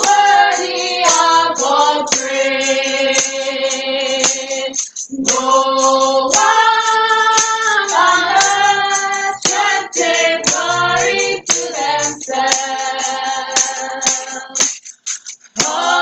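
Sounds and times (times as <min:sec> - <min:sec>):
group singing gospel song: 0:00.0 - 0:14.6, 0:15.6 - 0:16.0.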